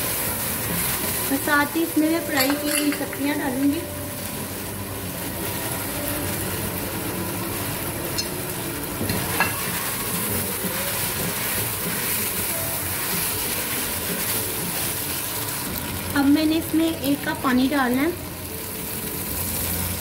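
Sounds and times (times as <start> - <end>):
spatula stirring: 0.0 - 17.2
food sizzling in a pot: 0.0 - 20.0.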